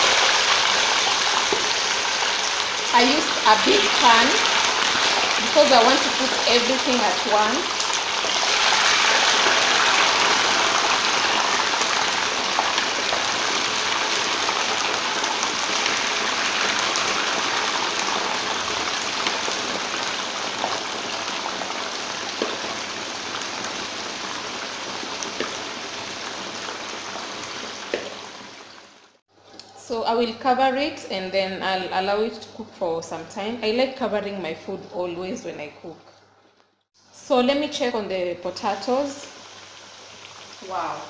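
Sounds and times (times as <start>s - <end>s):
potatoes sizzling in oil: 0.0s - 29.2s, 37.1s - 41.0s.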